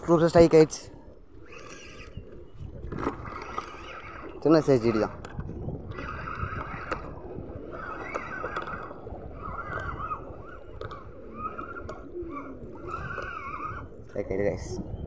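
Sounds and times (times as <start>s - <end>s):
fishing reel whirring: 0.0s - 15.0s.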